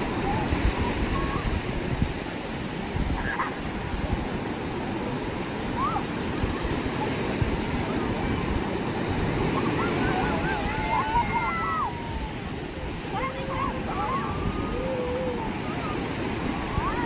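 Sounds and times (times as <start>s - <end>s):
surf breaking on beach: 0.0s - 17.0s
faint voices: 3.2s - 17.0s.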